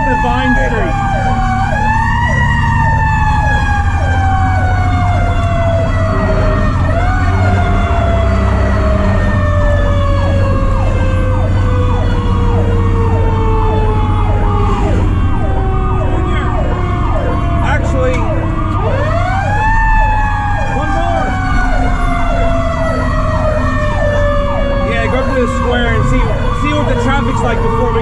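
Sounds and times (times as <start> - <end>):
electronic siren yelping: 0.0 - 28.0
mechanical siren howling: 0.0 - 28.0
truck engine rumble: 0.0 - 28.0.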